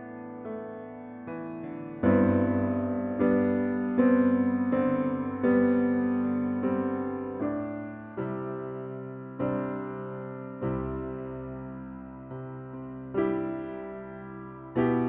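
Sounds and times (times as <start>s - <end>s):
slow electric piano chords: 0.0s - 15.0s.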